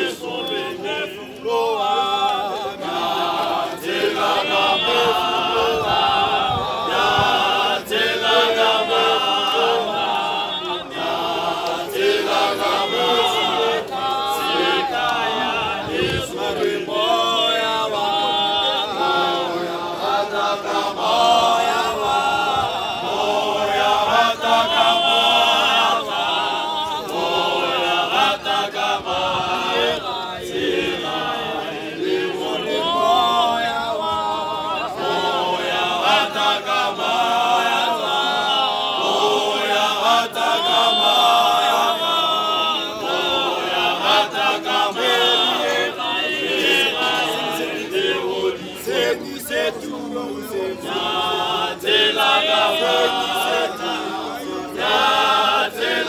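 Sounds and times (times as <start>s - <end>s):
male choir singing a cappella: 0.0s - 56.0s.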